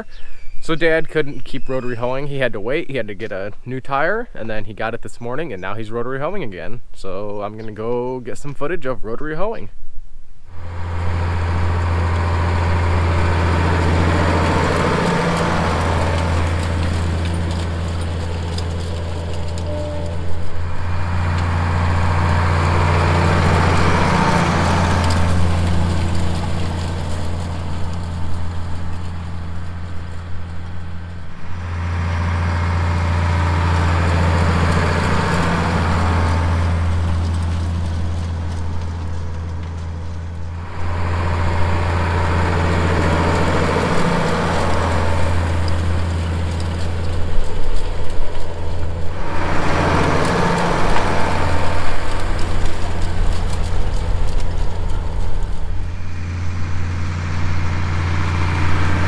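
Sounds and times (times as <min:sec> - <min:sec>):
tractor diesel engine under load: 0:00.0 - 0:08.2, 0:10.5 - 0:59.0
rushing noise: 0:10.5 - 0:59.0.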